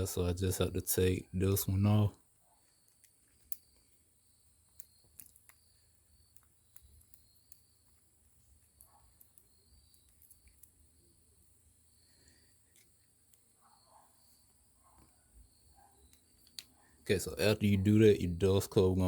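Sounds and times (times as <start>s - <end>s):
faint insect chirping: 0.0s - 19.0s.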